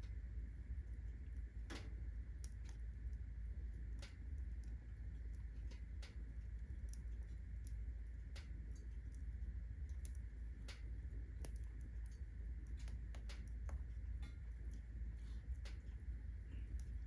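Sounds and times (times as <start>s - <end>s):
firewood crackling and popping: 0.0s - 17.0s
low steady rumble: 0.0s - 17.0s.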